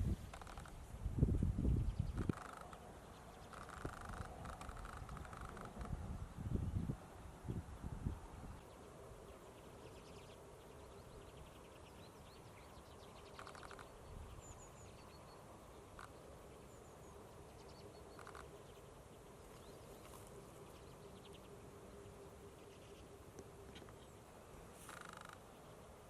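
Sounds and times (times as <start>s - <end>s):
birds calling with rattling trills: 0.0s - 26.0s
faint steady hum: 0.0s - 26.0s.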